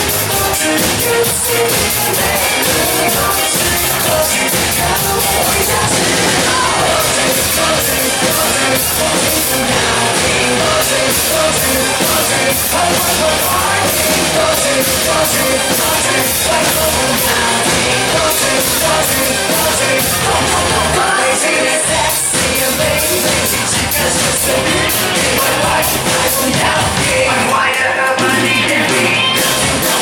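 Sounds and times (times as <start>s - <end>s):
driving drum beat: 0.0s - 30.0s
rock song with singing: 0.0s - 30.0s.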